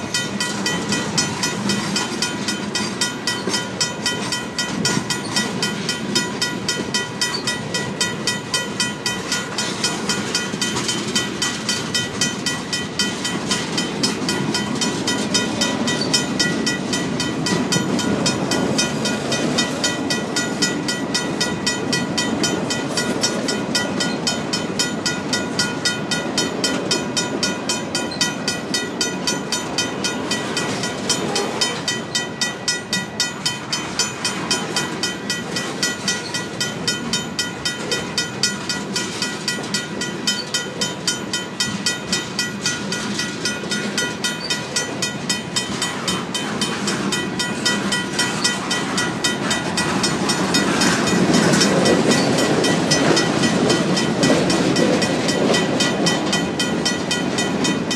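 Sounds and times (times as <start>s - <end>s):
crossing bell ringing rapidly: 0.0s - 57.9s
train wheels clacking on rails: 0.0s - 57.9s.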